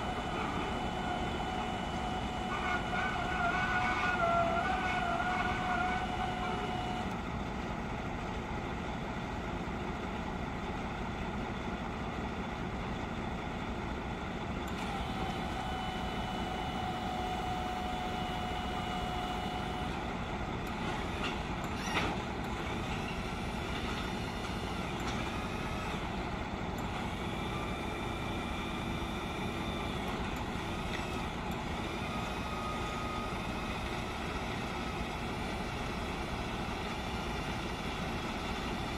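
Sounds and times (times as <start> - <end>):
diesel truck engine idling: 5.0 - 38.9.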